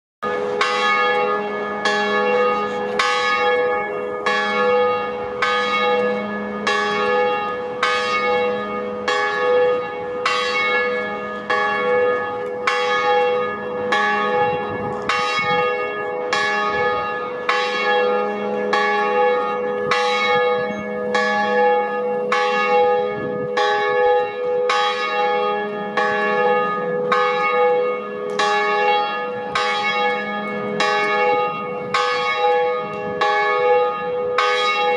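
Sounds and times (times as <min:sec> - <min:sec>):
cathedral bells ringing: 0:00.2 - 0:34.9.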